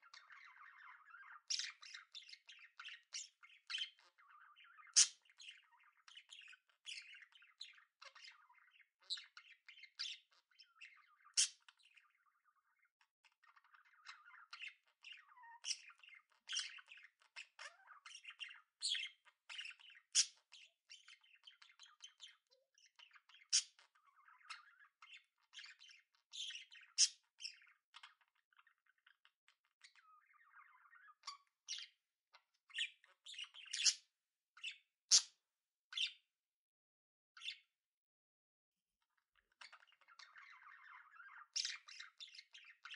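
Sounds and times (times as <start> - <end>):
budgerigars chirping: 0.0 - 12.6, 13.4 - 29.2, 29.8 - 32.0, 32.7 - 34.0, 39.6 - 42.9.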